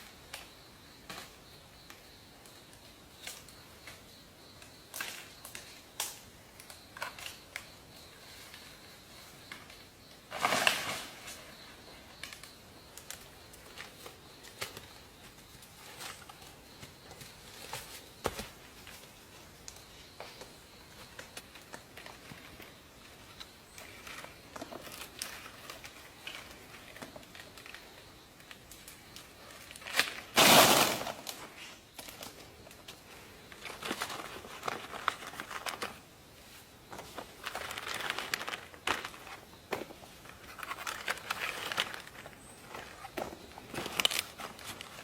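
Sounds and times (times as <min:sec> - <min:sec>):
dry plants rustling and crackling: 0:04.7 - 0:45.0.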